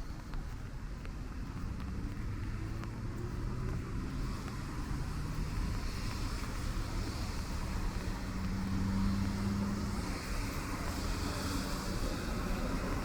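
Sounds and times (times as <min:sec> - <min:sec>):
tyres on wet road: 0:00.0 - 0:13.0
vehicle engine hum: 0:00.0 - 0:13.0.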